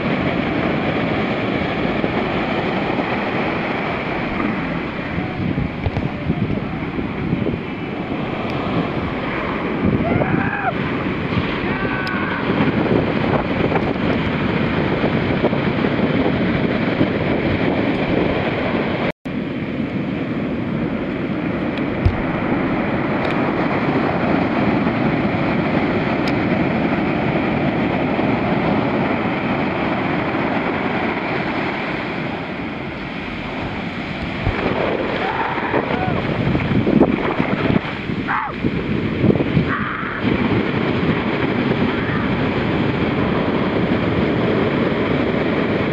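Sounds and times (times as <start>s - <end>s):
surf crashing on sand: 0.0s - 45.9s
wind buffeting microphone: 0.0s - 45.9s.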